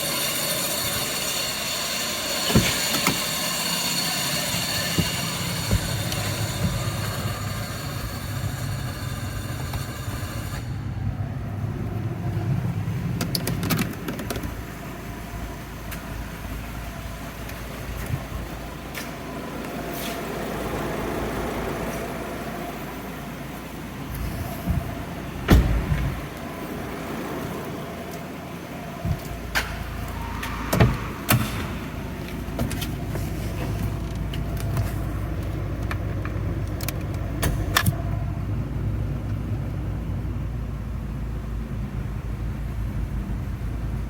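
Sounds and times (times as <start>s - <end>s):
blower fan hum: 0.0s - 44.0s
fan whine: 0.0s - 44.0s.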